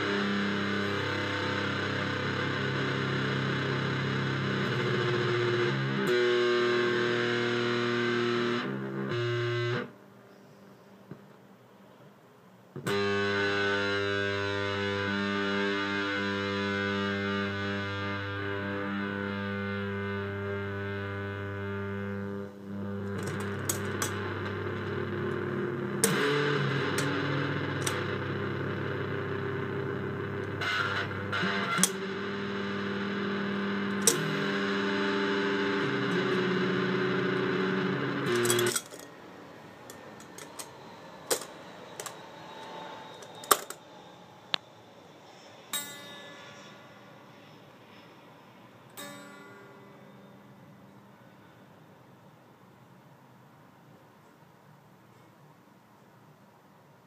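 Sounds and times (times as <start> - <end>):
distorted electric guitar drone: 0.0 - 10.6, 12.7 - 52.3.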